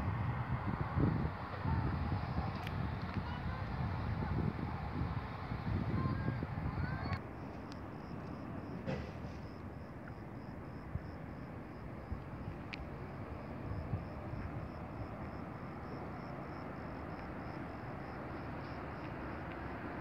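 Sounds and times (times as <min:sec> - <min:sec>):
outdoor rumble and hiss: 0:00.0 - 0:20.0.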